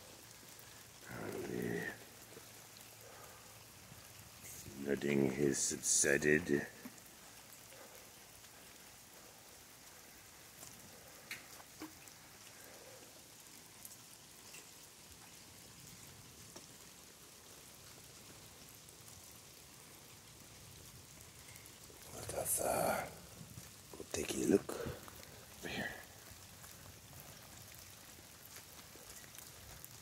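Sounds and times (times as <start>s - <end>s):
light rain patter: 0.0s - 30.0s.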